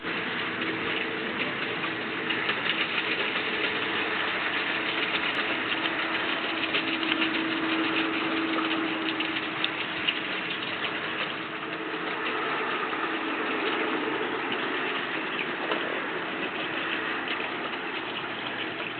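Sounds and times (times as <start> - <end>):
faint crackle: 0.0 - 18.9
noisy wash: 0.0 - 18.9
small motor running: 0.0 - 18.9.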